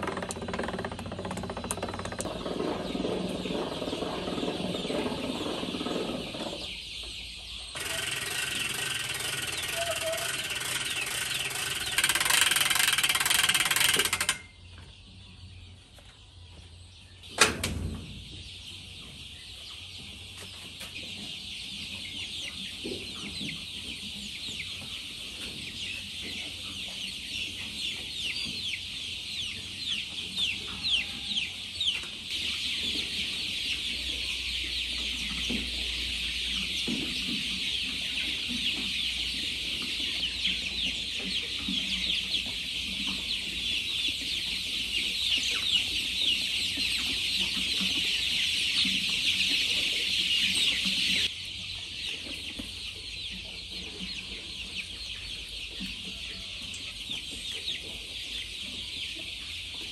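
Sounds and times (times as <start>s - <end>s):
flock of birds peeping: 0.0s - 12.9s, 14.2s - 59.9s.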